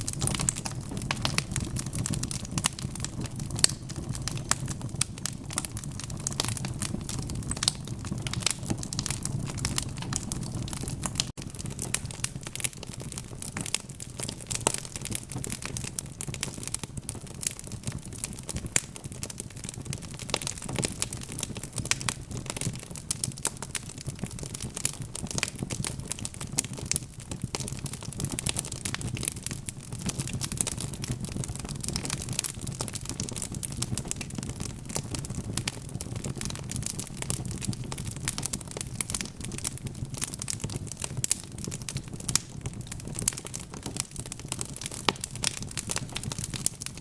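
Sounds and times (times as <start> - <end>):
burning logs crackling: 0.0 - 47.0
low rumble of flames: 0.0 - 47.0.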